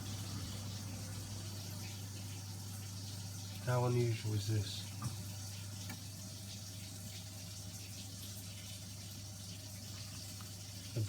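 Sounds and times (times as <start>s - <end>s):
water running from a tap: 0.0s - 11.0s.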